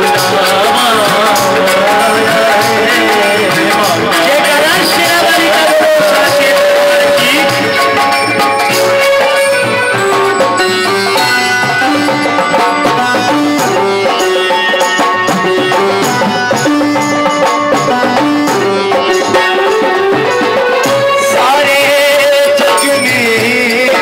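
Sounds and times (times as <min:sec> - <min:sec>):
electronic keyboard melody: 0:00.0 - 0:24.0
harmonium: 0:00.0 - 0:24.0
percussion rhythm: 0:00.0 - 0:24.0.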